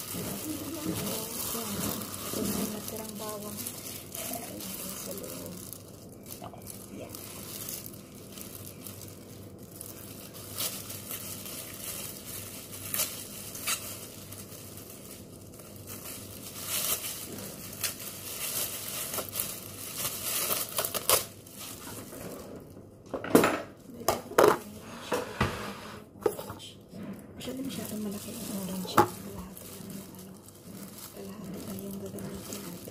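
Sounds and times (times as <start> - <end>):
plastic gloves and bag crinkling: 0.0 - 25.0, 27.0 - 32.9.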